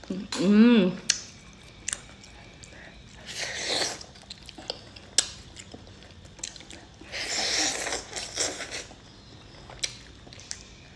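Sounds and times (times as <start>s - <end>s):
chewing and mouth smacks: 1.1s - 9.0s, 9.6s - 10.8s.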